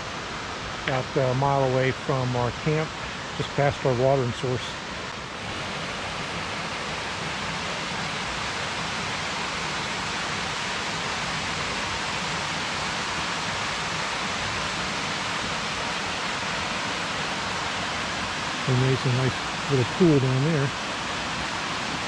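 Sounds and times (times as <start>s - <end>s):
small waterfall rushing: 0.0s - 22.0s.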